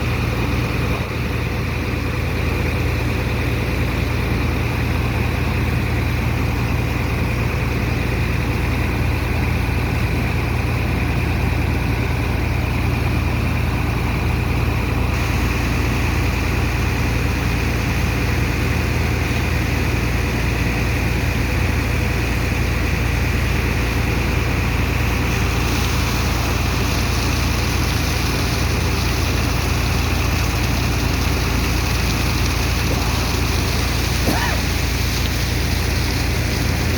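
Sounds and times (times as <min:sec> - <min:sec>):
machinery low drone: 0:00.0 - 0:36.9
water pump rushing noise: 0:00.0 - 0:36.9.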